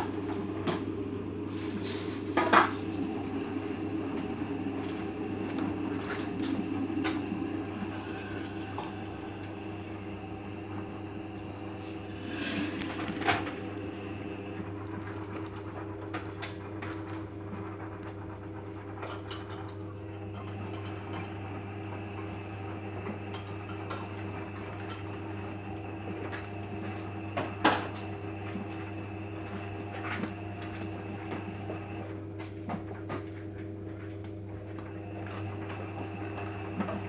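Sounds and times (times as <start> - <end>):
washing machine motor hum: 0.0 - 37.0.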